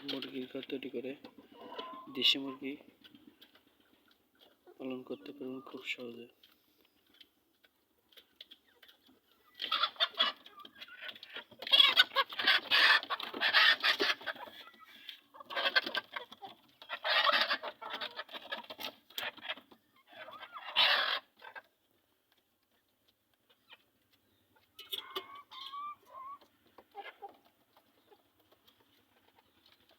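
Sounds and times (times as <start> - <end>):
chickens clucking: 0.0 - 29.9.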